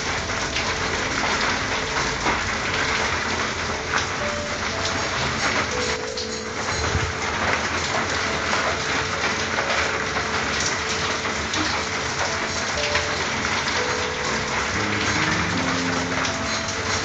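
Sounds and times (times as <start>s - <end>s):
rain on a tin roof: 0.0s - 17.0s.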